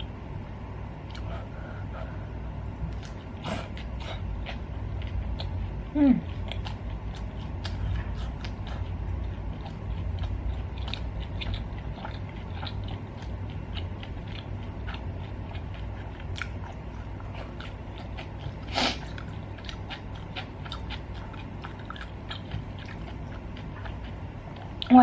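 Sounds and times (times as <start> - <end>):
person chewing meat: 0.0 - 25.0.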